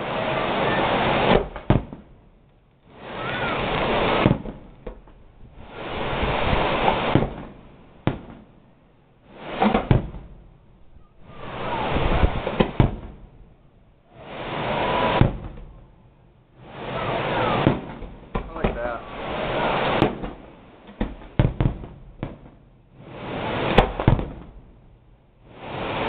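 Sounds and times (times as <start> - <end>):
fireworks crackling hiss: 0.0 - 26.0
fireworks sharp bangs: 0.0 - 26.0.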